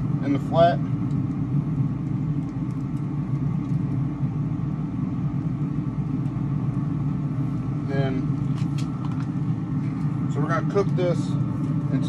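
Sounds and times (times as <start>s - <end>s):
low machine rumble: 0.0s - 12.0s.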